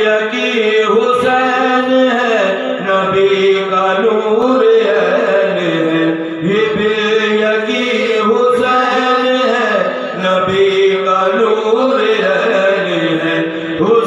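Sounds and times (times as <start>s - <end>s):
man chanting into a microphone: 0.0s - 14.0s.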